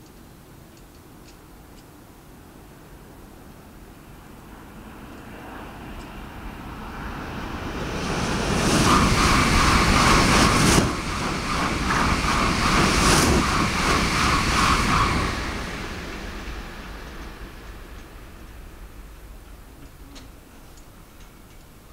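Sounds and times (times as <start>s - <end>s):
high-speed train rushing past: 3.0s - 21.9s.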